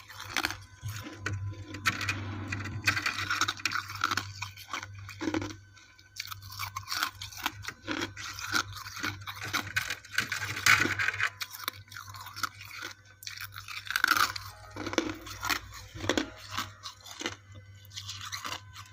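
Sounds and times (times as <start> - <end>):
crunching frost: 0.0 - 18.9.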